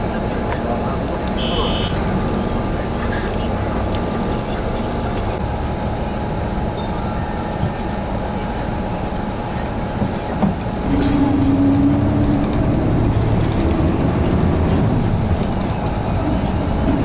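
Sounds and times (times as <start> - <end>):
moving vehicle rumble: 0.0 - 17.0.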